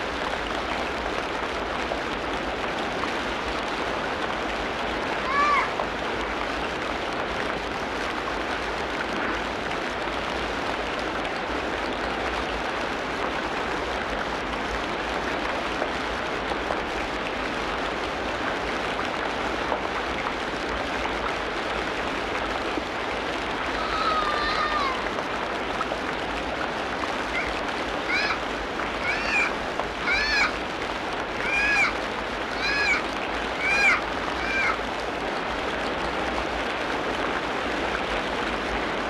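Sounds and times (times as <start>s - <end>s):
heavy rain hissing: 0.0s - 39.0s.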